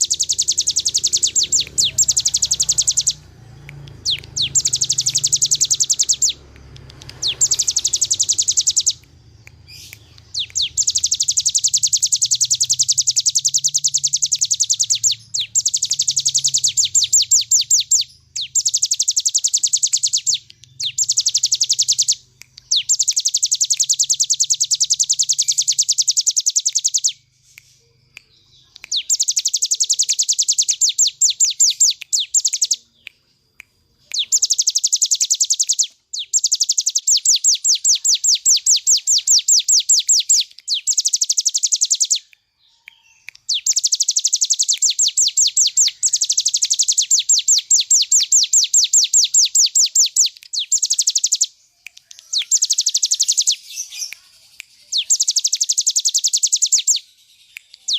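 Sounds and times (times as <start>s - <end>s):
bird singing fast trills: 0.0s - 57.9s.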